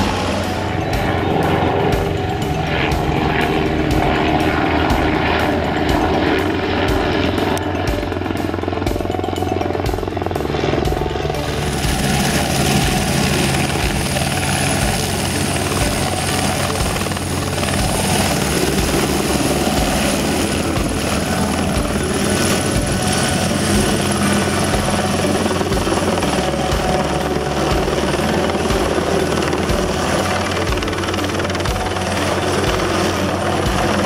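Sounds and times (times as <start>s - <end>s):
helicopter rotor chop: 0.0s - 34.0s
high turbine whine: 0.0s - 34.0s.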